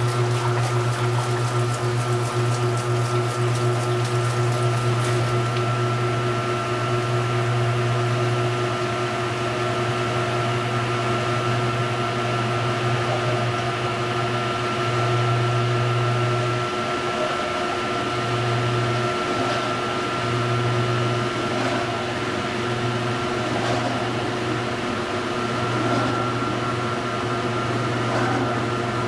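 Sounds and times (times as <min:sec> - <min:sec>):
washing machine motor hum: 0:00.0 - 0:29.0.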